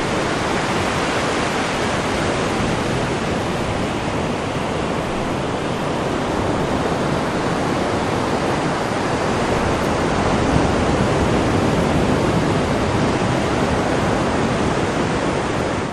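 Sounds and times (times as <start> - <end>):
sea surf rushing: 0.0 - 15.9.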